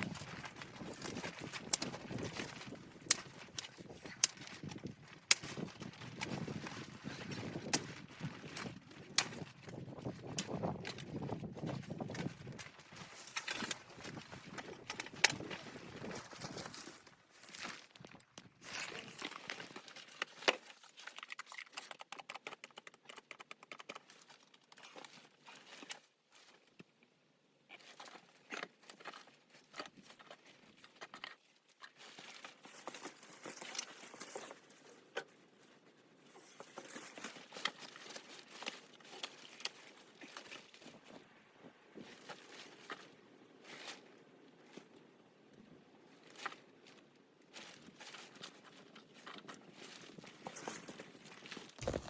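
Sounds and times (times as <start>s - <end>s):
material crinkling and rustling: 0.0s - 27.0s, 27.7s - 45.0s, 46.1s - 52.0s.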